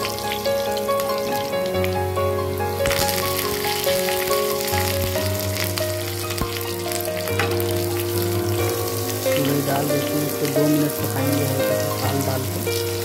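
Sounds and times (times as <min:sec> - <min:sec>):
background music melody: 0:00.0 - 0:13.0
spices sizzling in oil: 0:00.0 - 0:13.0.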